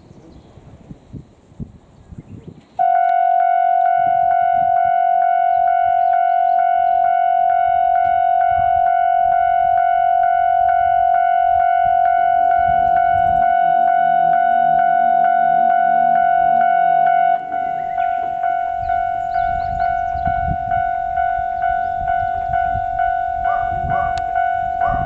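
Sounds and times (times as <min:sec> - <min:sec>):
diesel train engine hum: 0:00.0 - 0:25.0
level crossing bell clanging: 0:02.8 - 0:25.0.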